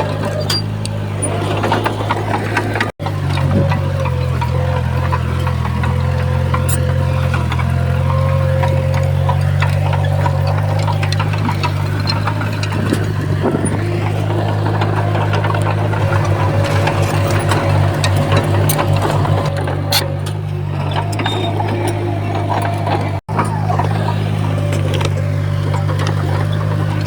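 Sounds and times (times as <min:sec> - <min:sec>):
bulldozer diesel engine running: 0:00.0 - 0:27.0
clanks and clicks: 0:00.0 - 0:27.0.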